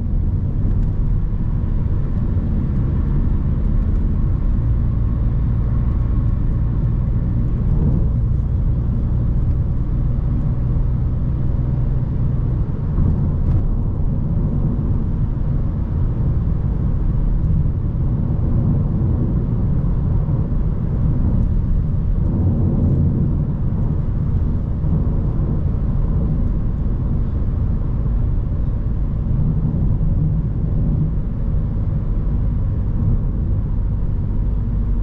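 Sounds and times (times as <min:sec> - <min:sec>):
car engine drone: 0:00.0 - 0:35.0
tyre road rumble: 0:00.0 - 0:35.0.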